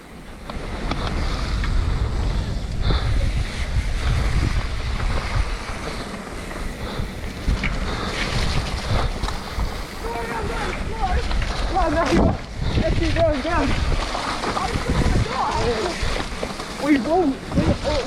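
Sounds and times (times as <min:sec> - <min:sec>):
bike knocking and rattling: 0:00.0 - 0:18.0
bike tyre noise: 0:00.0 - 0:18.0
wind rumbling on microphone: 0:00.0 - 0:18.0.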